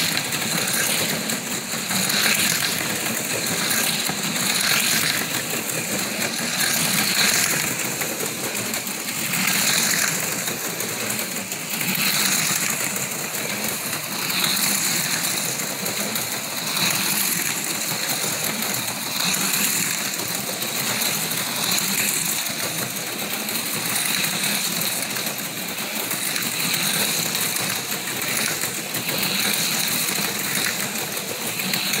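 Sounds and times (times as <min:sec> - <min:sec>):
slot car motors whirring: 0:00.0 - 0:32.0.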